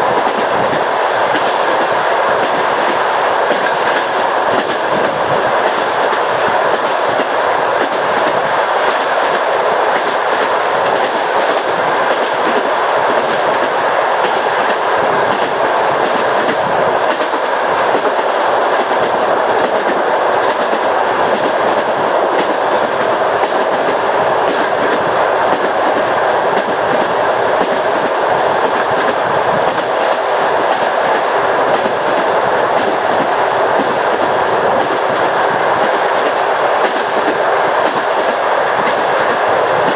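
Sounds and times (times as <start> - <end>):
train wheels rolling rumble: 0.0 - 39.9
wheels clacking over rail joints: 0.0 - 39.9.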